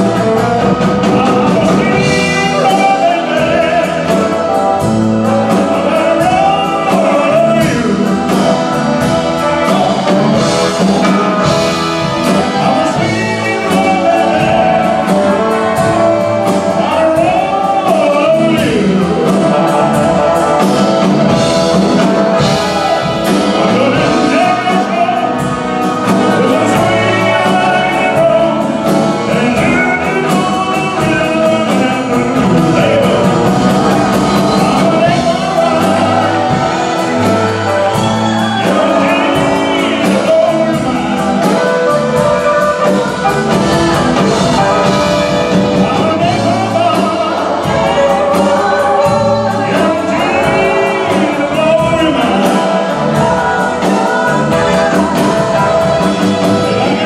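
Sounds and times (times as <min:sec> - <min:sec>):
drum kit: 0:00.0 - 0:57.0
electric bass: 0:00.0 - 0:57.0
man singing lead: 0:00.0 - 0:57.0.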